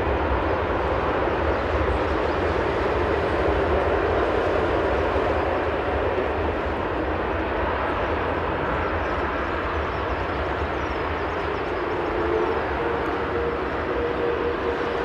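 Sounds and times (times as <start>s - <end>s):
jet engines at low thrust: 0.0s - 15.0s.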